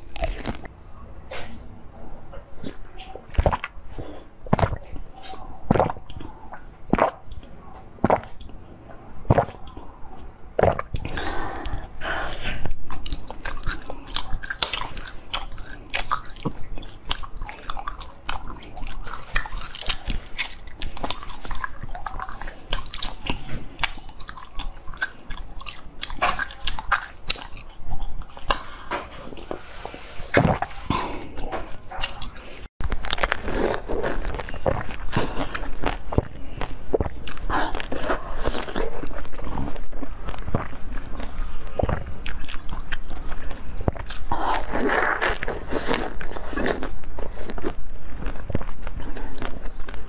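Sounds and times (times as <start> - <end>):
crackly chewing: 0.0 - 0.7, 9.2 - 29.6, 30.3 - 50.0.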